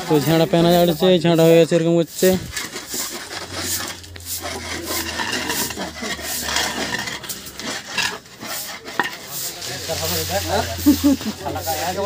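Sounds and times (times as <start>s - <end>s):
scrapes and knocks: 0.1s - 12.0s
scrubbing and rubbing: 0.1s - 12.0s.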